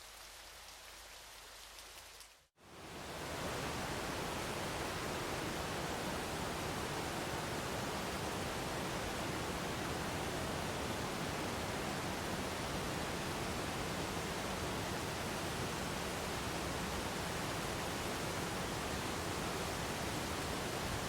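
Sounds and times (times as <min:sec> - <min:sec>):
light patter of falling water: 0:00.0 - 0:21.0.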